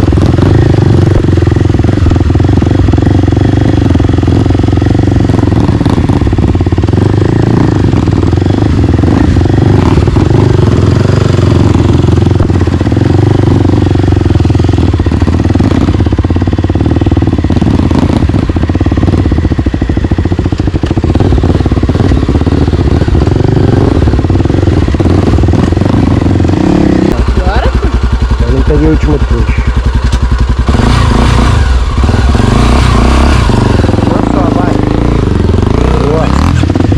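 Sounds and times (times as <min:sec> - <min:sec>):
dirt bike engine running: 0:00.0 - 0:36.9.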